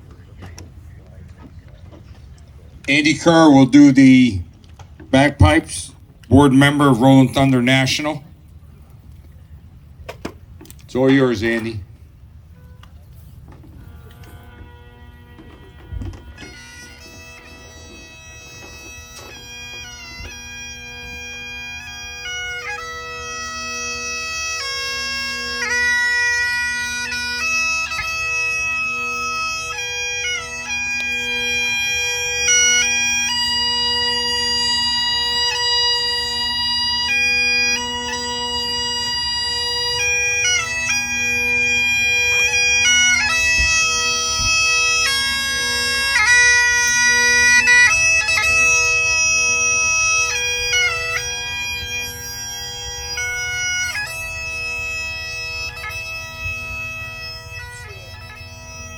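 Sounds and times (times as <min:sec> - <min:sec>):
bagpipes playing slow melody: 0:02.2 - 0:08.3, 0:13.6 - 0:58.9.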